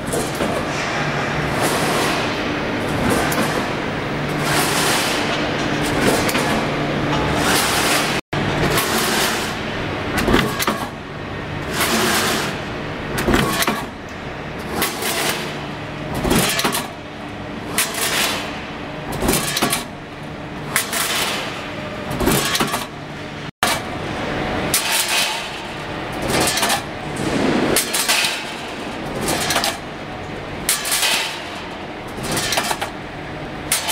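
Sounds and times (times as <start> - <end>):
steady motor hum: 0.0 - 33.9.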